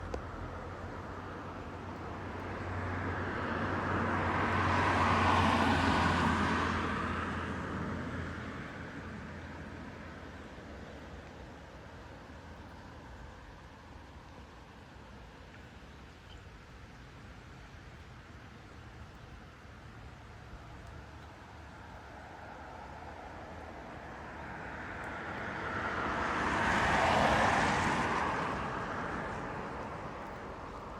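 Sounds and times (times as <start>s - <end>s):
road vehicle passing by: 0.0s - 13.5s, 19.4s - 30.9s.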